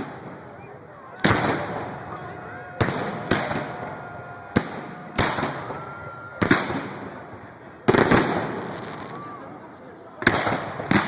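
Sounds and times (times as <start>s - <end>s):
fireworks bursting with echo: 0.0s - 11.0s.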